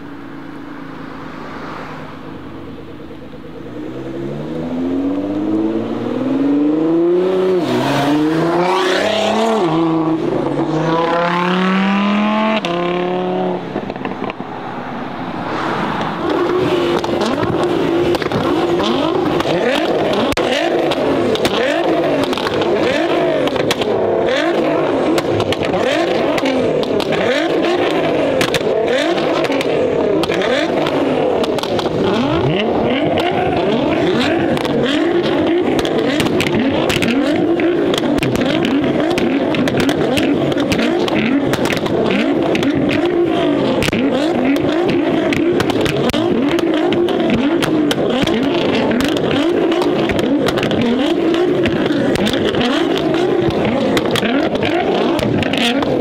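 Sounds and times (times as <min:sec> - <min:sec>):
car engines revving: 0:00.0 - 0:56.0
exhaust crackles: 0:00.0 - 0:56.0.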